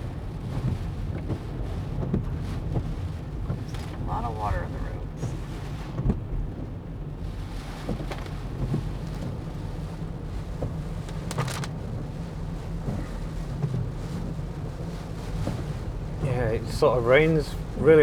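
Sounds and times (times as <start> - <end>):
car driving on wet road: 0.0 - 18.0.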